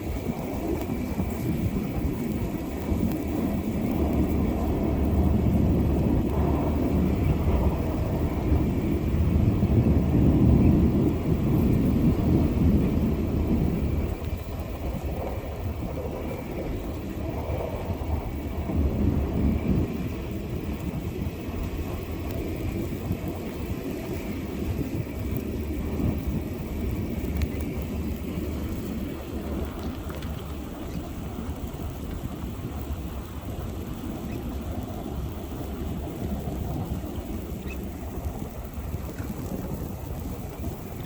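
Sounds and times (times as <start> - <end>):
wind gusting across microphone: 0.0 - 41.0.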